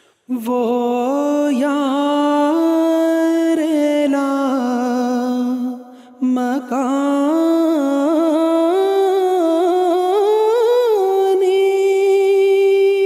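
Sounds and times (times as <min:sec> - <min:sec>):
man singing unaccompanied: 0:00.3 - 0:13.0.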